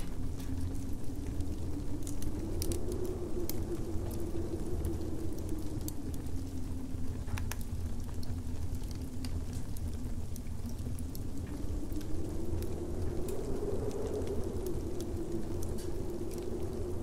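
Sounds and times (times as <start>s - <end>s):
low rumble of wind: 0.0s - 17.0s
wavering wind howl: 0.0s - 17.0s
wood fire crackling and popping: 0.0s - 17.0s.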